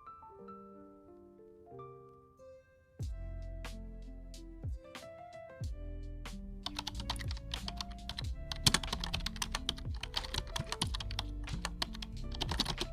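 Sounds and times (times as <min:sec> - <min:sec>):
lo-fi background music: 0:02.4 - 0:12.9.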